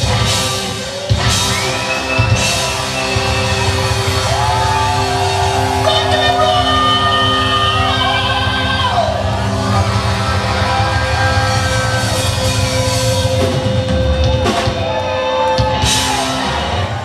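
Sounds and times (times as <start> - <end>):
hard rock band playing: 0.0 - 17.0.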